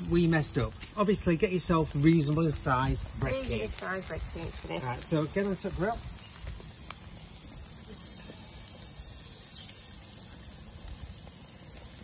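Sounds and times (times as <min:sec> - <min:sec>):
burger patties sizzling on grill: 0:00.0 - 0:12.0.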